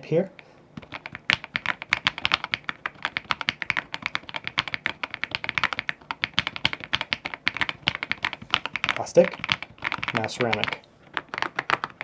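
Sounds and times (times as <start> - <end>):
typing on mechanical keyboard: 0.8 - 12.0.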